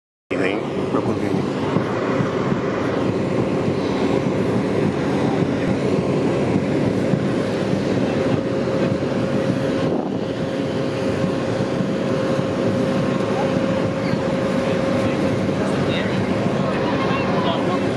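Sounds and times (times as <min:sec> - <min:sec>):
aircraft engine drone with whine: 0:00.3 - 0:17.9.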